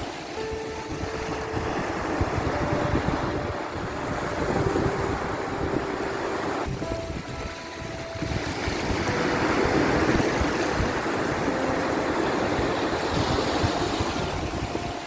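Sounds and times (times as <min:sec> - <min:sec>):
faint ambient music: 0:00.0 - 0:15.0
ocean surf washing in: 0:00.0 - 0:15.0.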